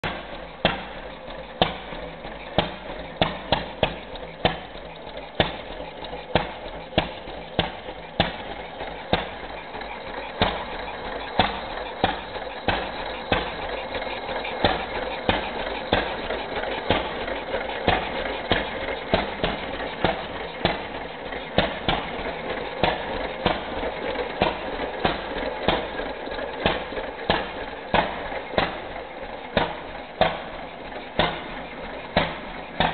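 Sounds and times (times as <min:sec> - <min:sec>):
engine mechanical clatter: 0:00.0 - 0:32.9.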